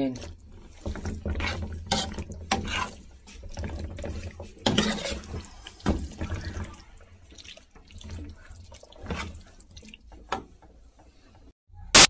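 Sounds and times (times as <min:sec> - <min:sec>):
spoon stirring wet food in metal pan: 0:00.0 - 0:11.6.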